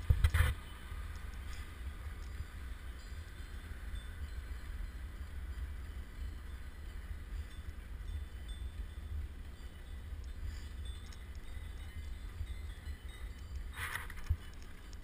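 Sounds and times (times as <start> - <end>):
wind buffeting microphone: 0.0 - 15.0
faint high tinkling: 0.3 - 15.0.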